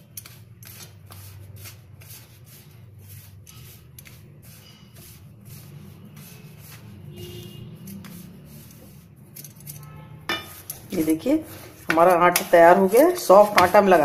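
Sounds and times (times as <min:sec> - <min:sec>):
hand scraping flour on steel plate: 0:00.0 - 0:14.0.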